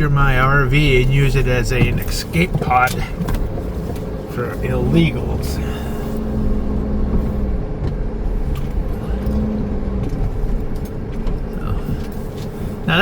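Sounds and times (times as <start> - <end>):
road noise drone: 0.0 - 13.0
van engine hum: 0.0 - 13.0.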